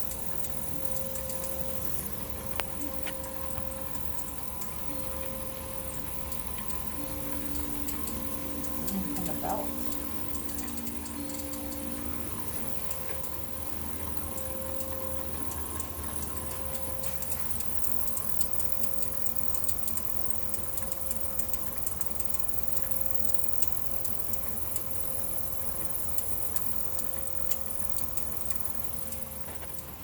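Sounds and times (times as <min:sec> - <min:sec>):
light irregular clicks: 0:00.0 - 0:30.0
treadmill motor hum with whine: 0:00.0 - 0:30.0.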